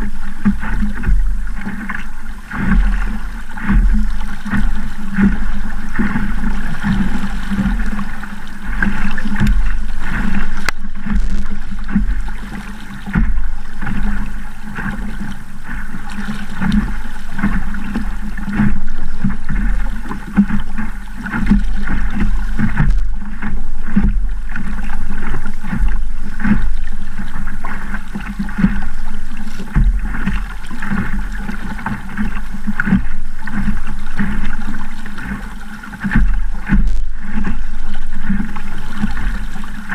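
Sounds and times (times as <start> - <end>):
water slapping against boat hull: 0.0 - 39.9
wind rumbling on microphone: 0.0 - 39.9.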